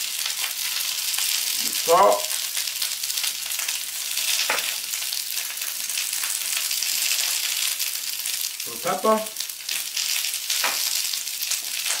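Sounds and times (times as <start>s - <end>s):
green beans sizzling in oil: 0.0s - 12.0s.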